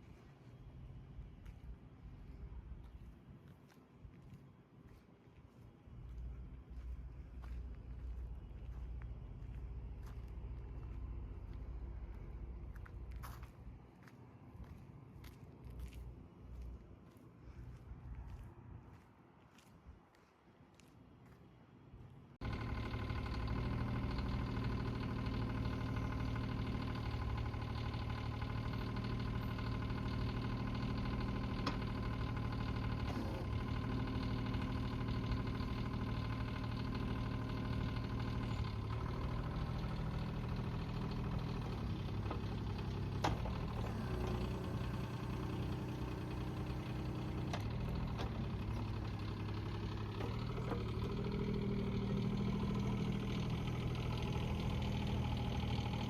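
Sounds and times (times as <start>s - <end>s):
diesel engine running: 5.6s - 19.0s, 22.4s - 56.0s.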